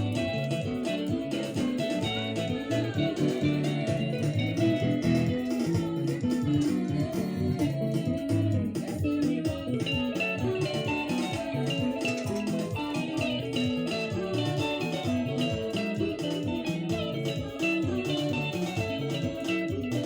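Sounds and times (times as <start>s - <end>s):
bass notes: 0.0s - 20.0s
picked lead guitar: 0.0s - 20.0s.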